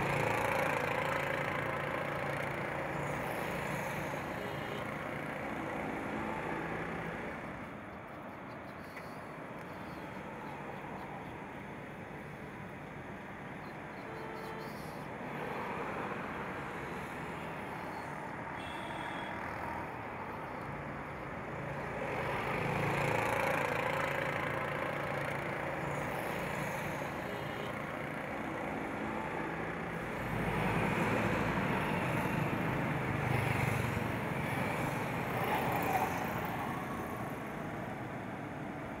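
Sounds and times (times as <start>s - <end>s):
road traffic passing: 0.0s - 39.0s.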